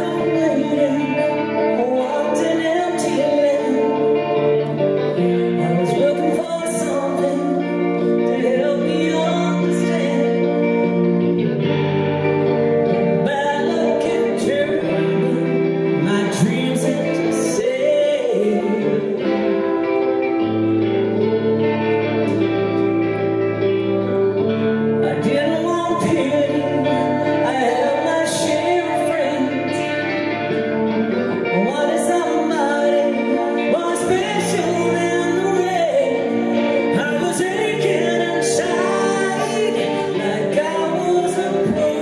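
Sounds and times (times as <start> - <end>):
electric guitars: 0.0 - 42.0
woman singing lead: 0.0 - 42.0.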